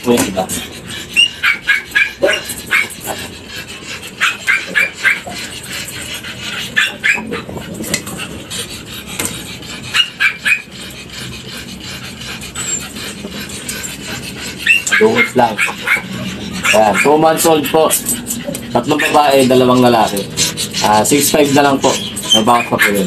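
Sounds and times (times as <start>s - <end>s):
puppies yelping: 0.0s - 23.0s.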